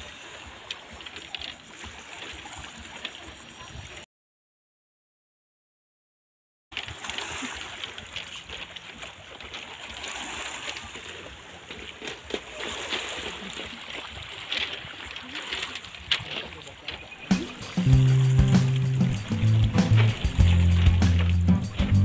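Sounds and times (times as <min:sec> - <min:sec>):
waves lapping on pebble beach: 0:00.0 - 0:04.0, 0:06.8 - 0:22.0.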